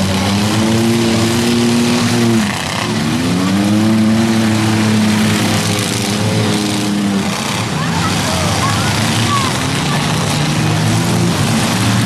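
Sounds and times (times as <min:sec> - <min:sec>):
car engines revving hard: 0:00.0 - 0:12.0
wheels spinning in mud: 0:00.0 - 0:12.0.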